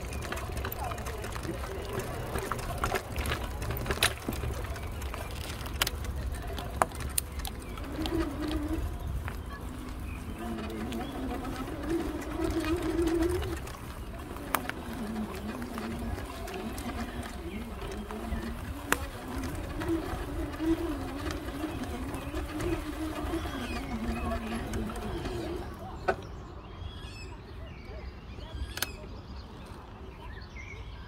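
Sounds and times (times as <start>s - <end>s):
low wavering murmur: 0.0s - 26.0s
distant voices: 0.0s - 31.0s
small birds chirping: 0.0s - 31.0s.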